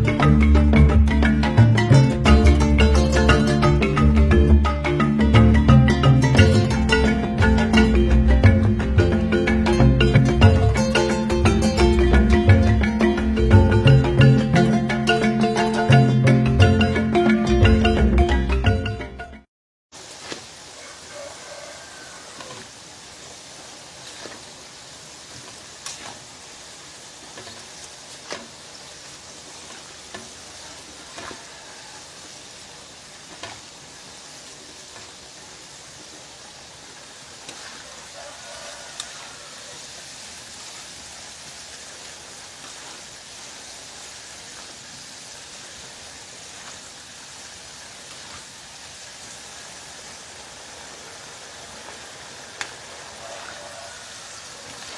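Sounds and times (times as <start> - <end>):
frying in hot oil sizzling: 0.0 - 15.7, 19.9 - 54.9.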